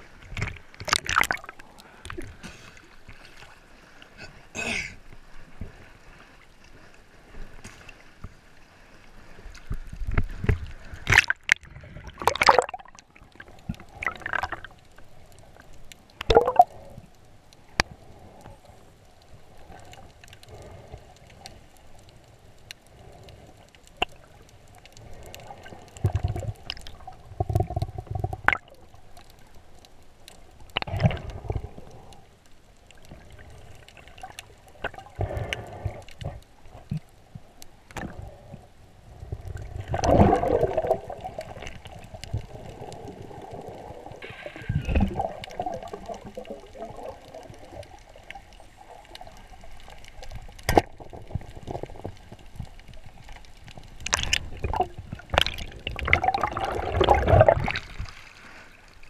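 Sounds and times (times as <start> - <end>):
muffled underwater water sloshing: 0.0 - 59.0.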